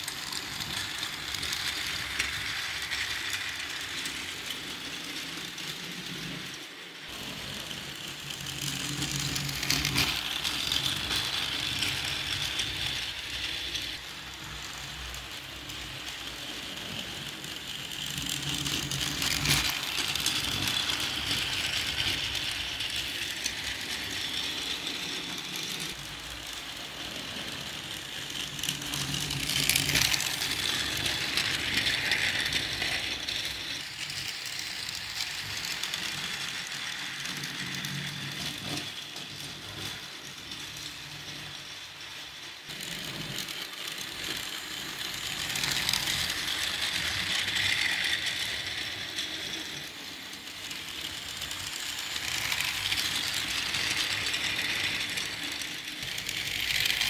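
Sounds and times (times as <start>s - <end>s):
toy train motor whirring: 0.0s - 57.0s.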